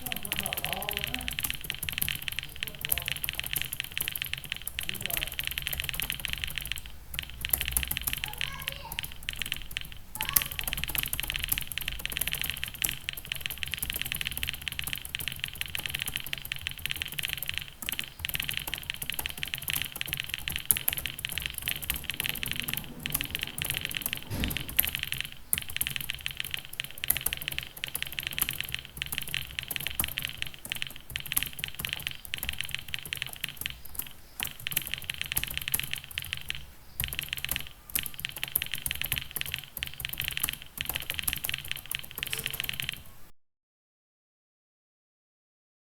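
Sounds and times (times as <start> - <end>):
fast typing on keyboard: 0.0 - 43.2.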